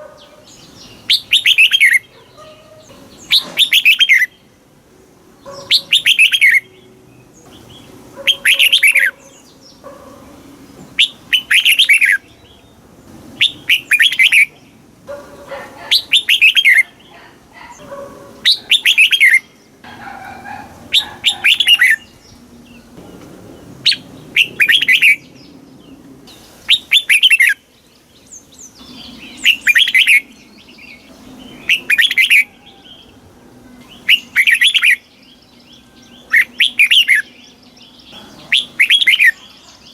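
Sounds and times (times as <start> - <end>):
bird singing warbled phrases: 0.0 - 4.7, 5.3 - 39.9.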